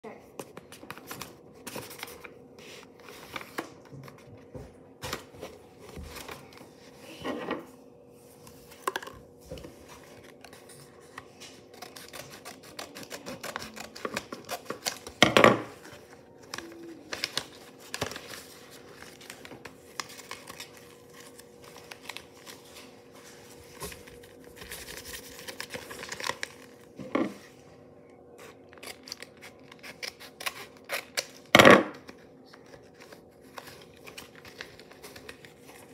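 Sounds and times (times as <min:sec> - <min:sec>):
paper and tape rustling: 0:00.4 - 0:04.4, 0:09.5 - 0:27.5, 0:28.3 - 0:35.9.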